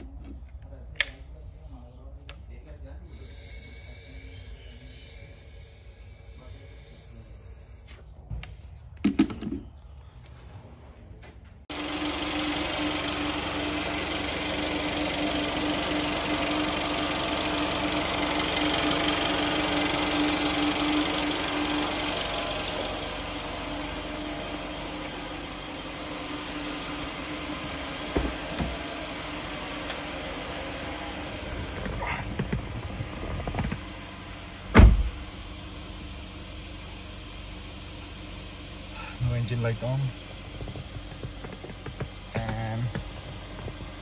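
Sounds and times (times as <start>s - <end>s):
engine whine: 2.2s - 44.0s
car engine idling: 2.4s - 8.2s, 11.7s - 44.0s.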